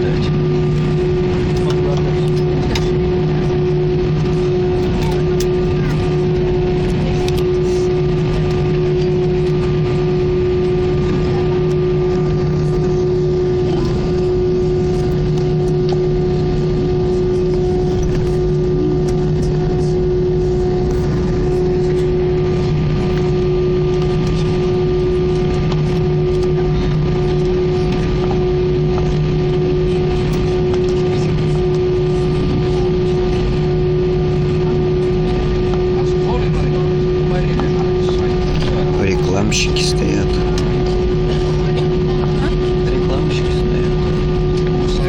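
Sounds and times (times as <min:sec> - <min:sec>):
airplane cabin drone: 0:00.0 - 0:45.0.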